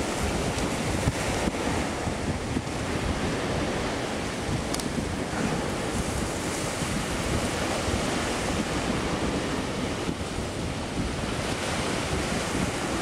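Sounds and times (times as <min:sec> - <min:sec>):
sea surf washing in: 0:00.0 - 0:13.0
wind blowing across microphone: 0:00.0 - 0:13.0.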